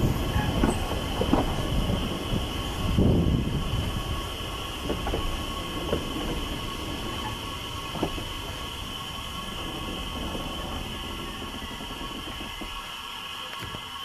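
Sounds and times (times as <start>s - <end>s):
low running rumble: 0.0s - 14.0s
train wheels squealing: 0.0s - 14.0s.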